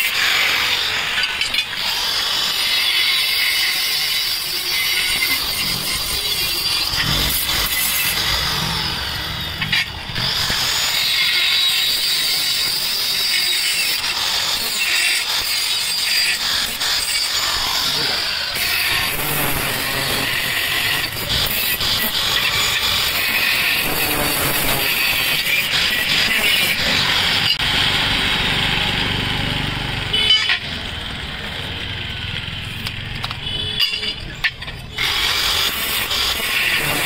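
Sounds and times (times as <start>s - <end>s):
angle grinder cutting steel: 0.0s - 33.0s, 33.8s - 37.0s.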